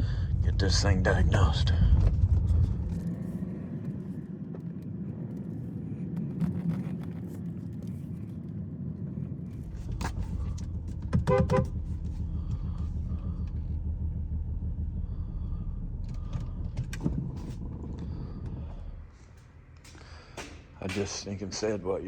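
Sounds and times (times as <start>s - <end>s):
car engine rumbling with misfire: 0.0s - 8.1s, 9.4s - 22.0s.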